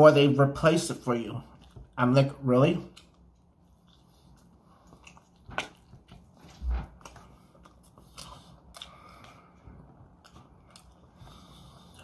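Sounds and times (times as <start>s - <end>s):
person chewing food: 1.2s - 12.0s.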